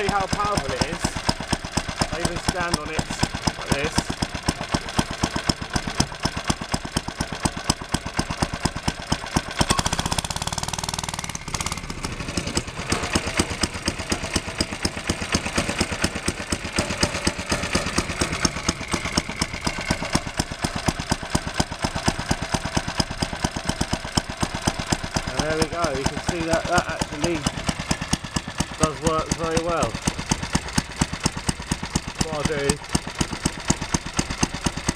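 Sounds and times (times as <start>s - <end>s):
small petrol engine running: 0.0s - 34.9s.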